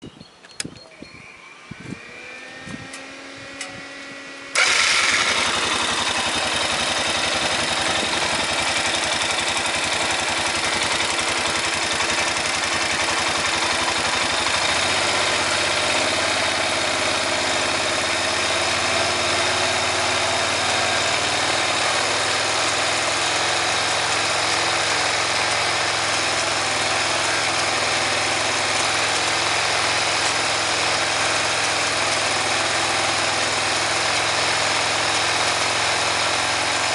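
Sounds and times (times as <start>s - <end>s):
atv engine starting and idling: 4.5s - 36.9s.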